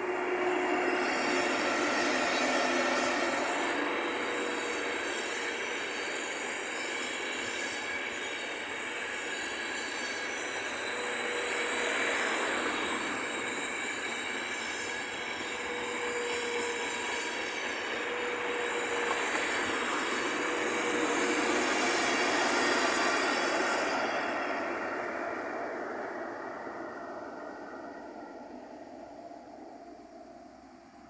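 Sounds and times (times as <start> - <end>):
faint whine: 0.0 - 31.0.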